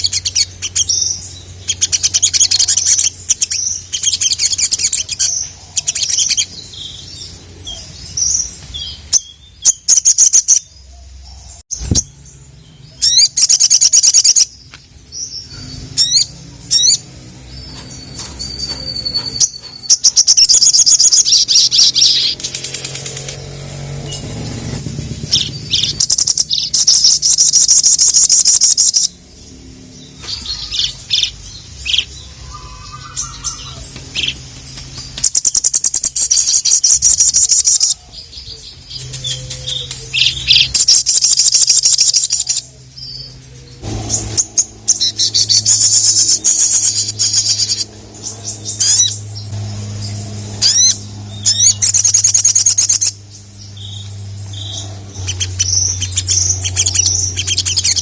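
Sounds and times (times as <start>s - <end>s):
songbird rattling song: 0.0s - 58.0s
low hum: 10.6s - 58.0s.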